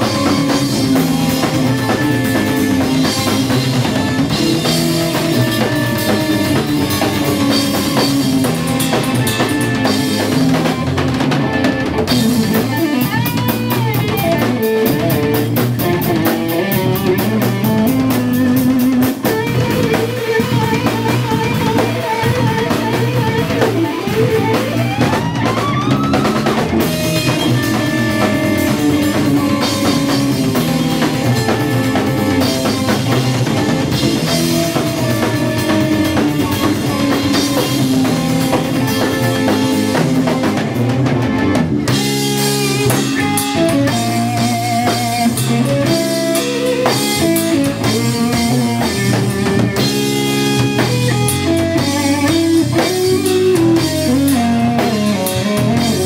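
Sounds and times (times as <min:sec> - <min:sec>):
electric guitar lead: 0:00.0 - 0:56.0
jazz-rock band playing: 0:00.0 - 0:56.0.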